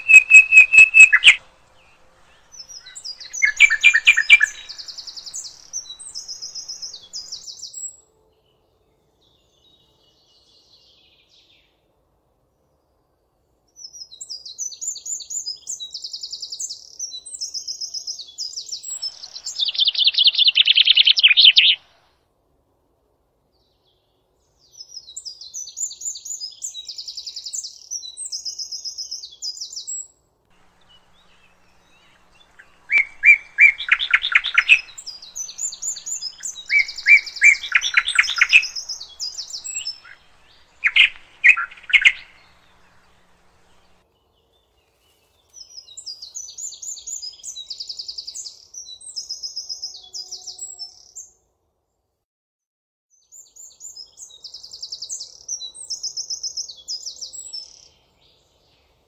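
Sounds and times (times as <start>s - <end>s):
high twittering birdsong: 0.0s - 11.8s, 13.6s - 22.1s, 23.6s - 51.4s, 53.1s - 59.0s
lower bird singing repeated notes: 0.0s - 11.8s, 12.6s - 22.1s, 23.6s - 51.5s, 53.1s - 59.0s.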